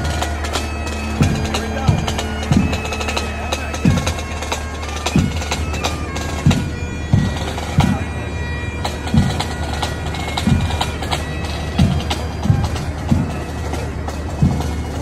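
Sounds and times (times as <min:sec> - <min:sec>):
bagpipes playing a tune: 0:00.0 - 0:15.0
drum beating: 0:00.0 - 0:15.0.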